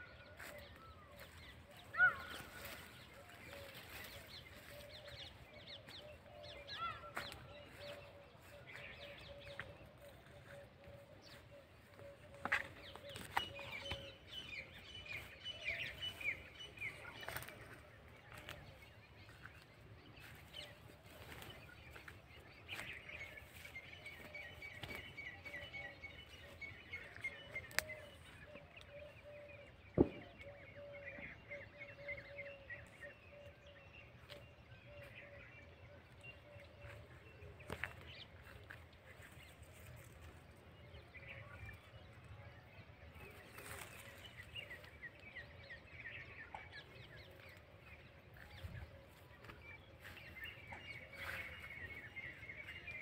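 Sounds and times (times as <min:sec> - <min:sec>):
birds chirping: 0:00.0 - 0:53.0
faint outdoor background noise: 0:00.0 - 0:53.0.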